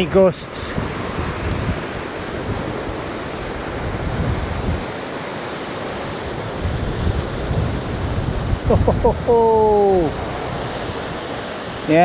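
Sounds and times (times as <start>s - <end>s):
storm wind blowing through trees: 0.0s - 12.0s
wind buffeting microphone: 0.0s - 12.0s.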